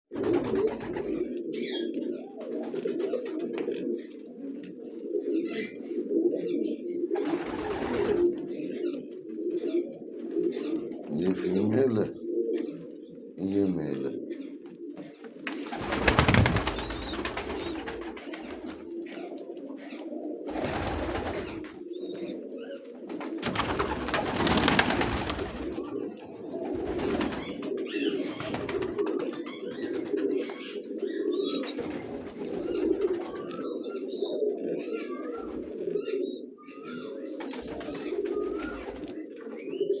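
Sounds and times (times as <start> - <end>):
pigeons cooing: 0.1 - 40.0.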